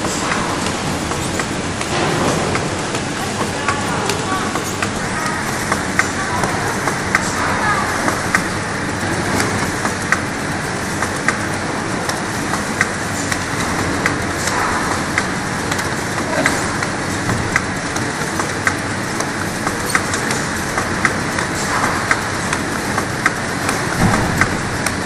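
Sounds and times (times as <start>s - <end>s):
labeling machine running: 0.0s - 25.0s.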